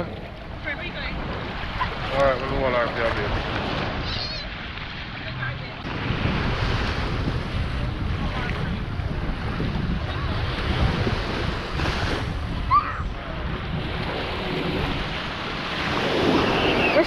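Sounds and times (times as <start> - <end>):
sea surf washing: 0.0 - 17.0
wind buffeting microphone: 0.0 - 17.0.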